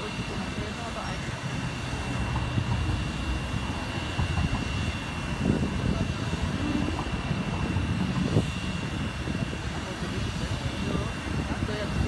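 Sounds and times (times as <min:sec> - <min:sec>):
thin high whine: 0:00.0 - 0:12.0
turntable low rumble: 0:00.0 - 0:12.0.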